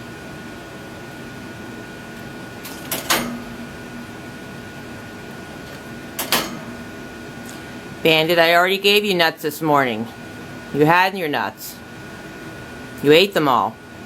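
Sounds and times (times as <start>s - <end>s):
background hum: 0.0s - 14.0s.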